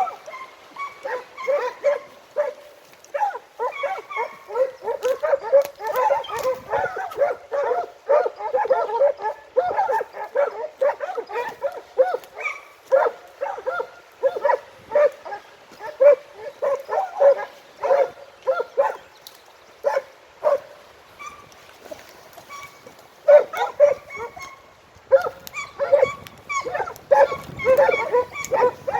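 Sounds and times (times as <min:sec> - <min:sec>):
hounds baying: 0:00.0 - 0:19.1, 0:19.8 - 0:21.5, 0:22.4 - 0:28.9.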